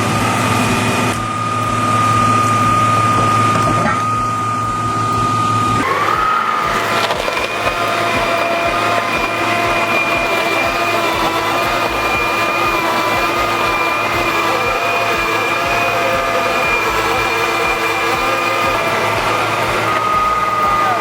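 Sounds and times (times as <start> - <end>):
machine cutting wood: 0.0 - 21.0.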